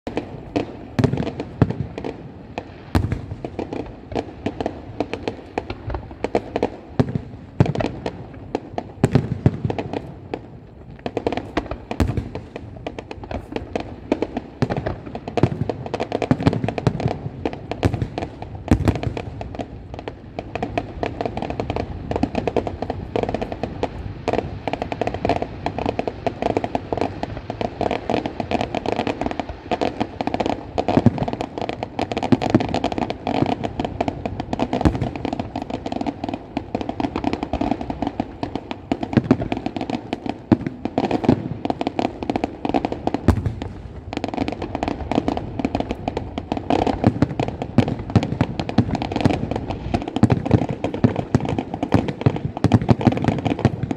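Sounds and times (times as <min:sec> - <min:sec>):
firecrackers popping: 0:00.0 - 0:53.9.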